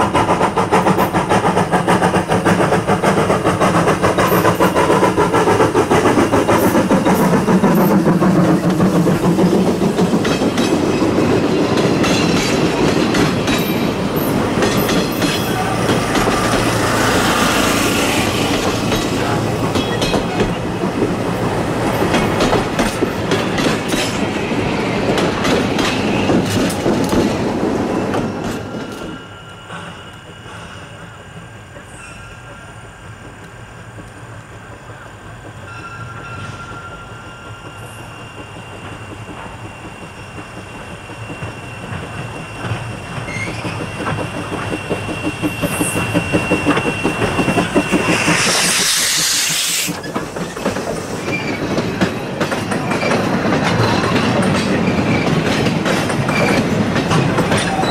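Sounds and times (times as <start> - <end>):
steam locomotive chuffing: 0.0 - 57.9
train wheels clicking over rail joints: 0.0 - 57.9.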